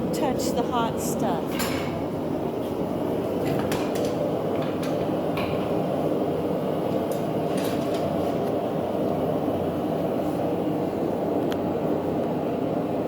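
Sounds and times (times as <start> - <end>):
forge fire roaring: 0.0 - 13.0.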